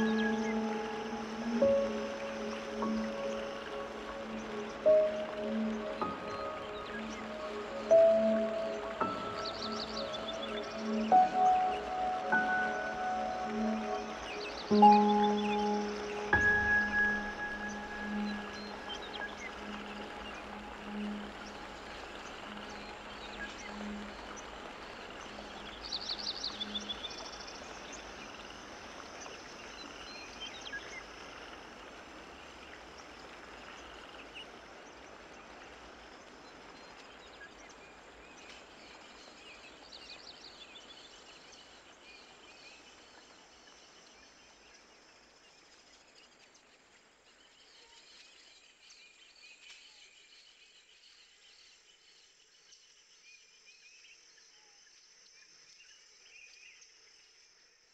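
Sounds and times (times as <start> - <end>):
faint background noise: 0.0 - 57.9.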